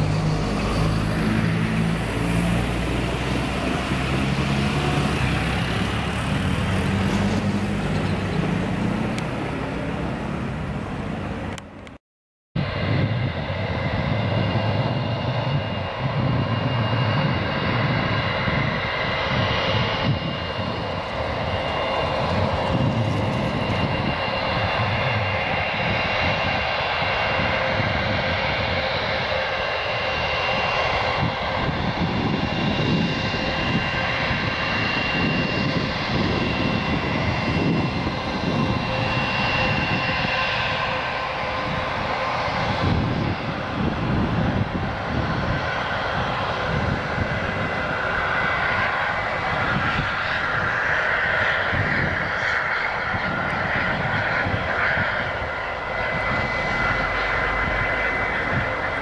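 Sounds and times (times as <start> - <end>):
engine fans whining: 0.0 - 12.0, 12.6 - 59.0
jet engines rumbling: 0.0 - 12.0, 12.6 - 59.0.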